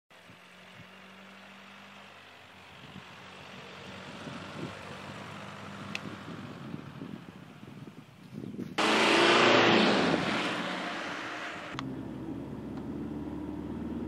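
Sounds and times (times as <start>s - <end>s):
car approaching: 0.1s - 14.0s.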